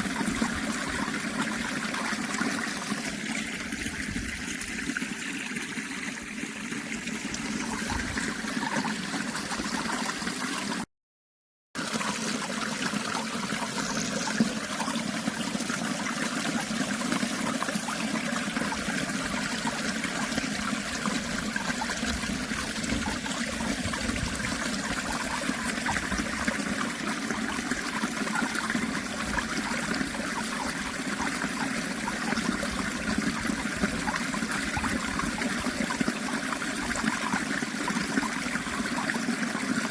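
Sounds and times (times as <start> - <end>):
water trickling: 0.0 - 10.8, 11.8 - 39.9.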